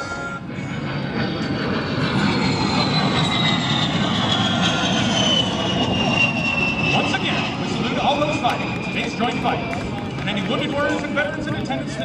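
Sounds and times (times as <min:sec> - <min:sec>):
high jet whine falling in pitch: 0:00.0 - 0:12.0
jet roar: 0:00.0 - 0:12.0.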